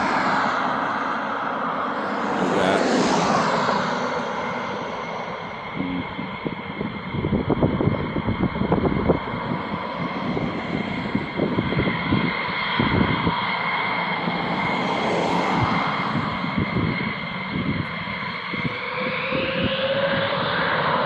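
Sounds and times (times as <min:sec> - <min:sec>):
jet engines whining: 0:00.0 - 0:21.0
road traffic passing: 0:00.0 - 0:21.0
wind buffeting microphone: 0:02.6 - 0:21.0.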